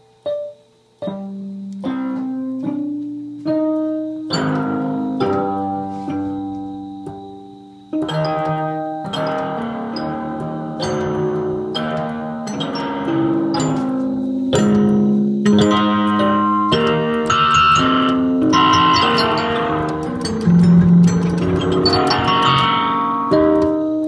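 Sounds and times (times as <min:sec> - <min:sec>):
automatic harp playing: 0:01.7 - 0:24.0.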